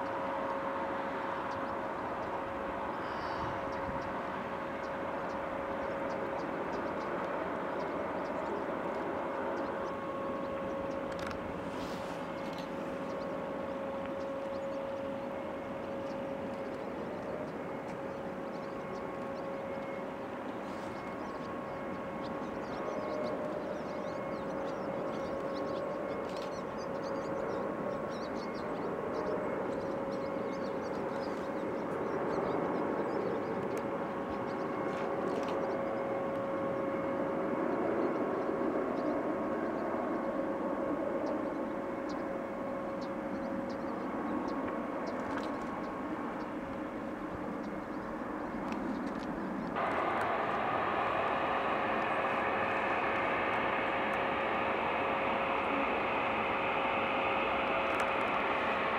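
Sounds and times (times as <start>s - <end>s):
jet engine whine: 0.0s - 58.9s
jet engines roaring: 0.0s - 58.9s.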